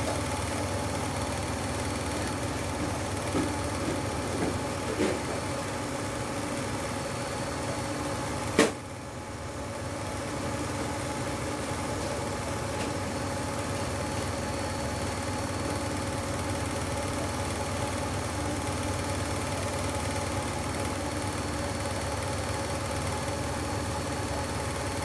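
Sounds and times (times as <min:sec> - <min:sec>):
kitchen equipment droning: 0:00.0 - 0:25.0.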